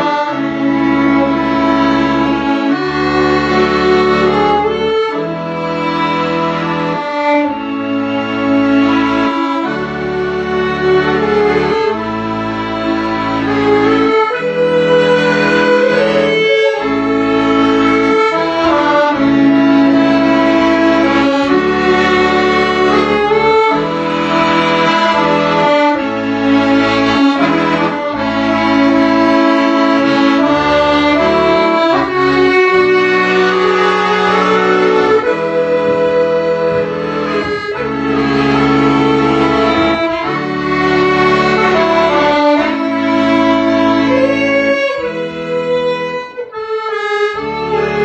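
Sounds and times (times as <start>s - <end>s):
bowed string music: 0.0s - 48.0s
low bass line: 0.0s - 48.0s.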